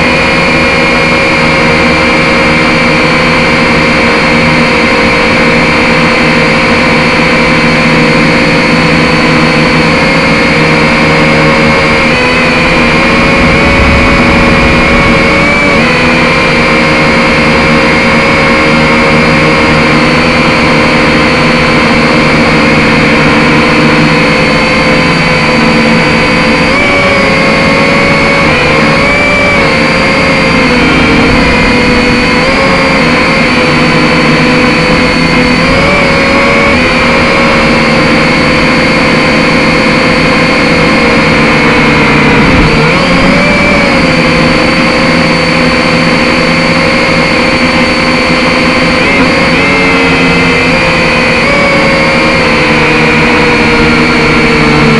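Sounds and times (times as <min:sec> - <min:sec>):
drone propellers whining: 0:00.0 - 0:54.9.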